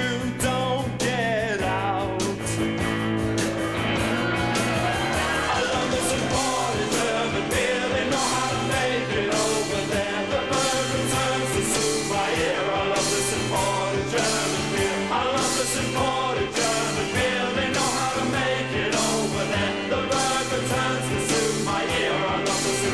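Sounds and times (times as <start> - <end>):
person singing: 0.0 - 2.7, 4.8 - 22.9
drums keeping a beat: 0.0 - 22.9
guitar rock band playing: 0.0 - 22.9.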